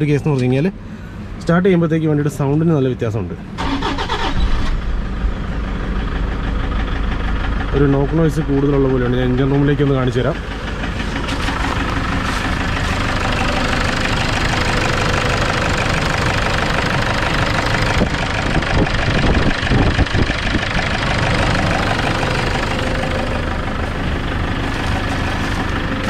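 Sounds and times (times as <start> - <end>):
diesel engine idling with knock: 4.2 - 26.0.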